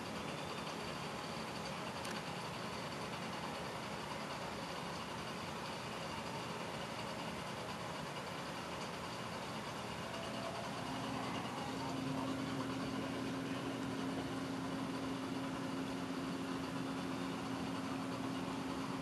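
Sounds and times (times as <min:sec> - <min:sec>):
aquarium pumps humming: 0:00.0 - 0:19.0.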